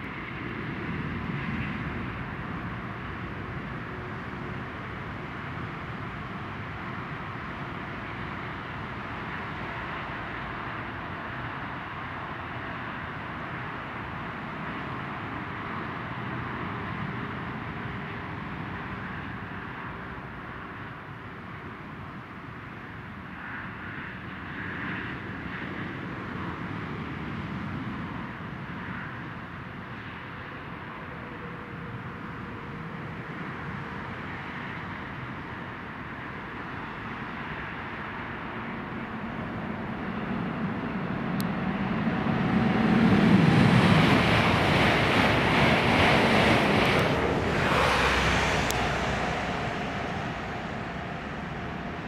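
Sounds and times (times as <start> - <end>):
distant rushing of high-speed train: 0.0 - 52.0
distant vehicle whoosh and rumble: 0.0 - 52.0.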